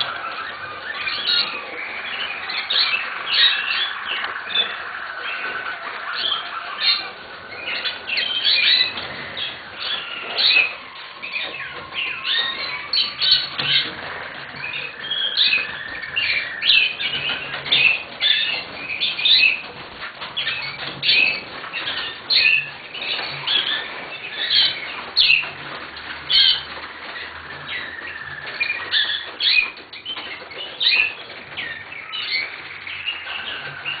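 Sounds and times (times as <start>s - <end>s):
canary chirping and trilling: 0.0s - 34.0s.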